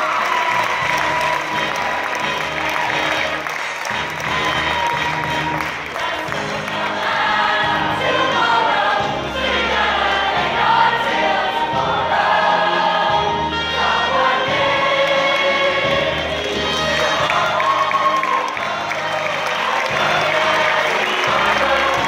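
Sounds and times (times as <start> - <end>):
instrumental accompaniment: 0.4 - 22.0
stage cast singing in chorus: 4.0 - 22.0.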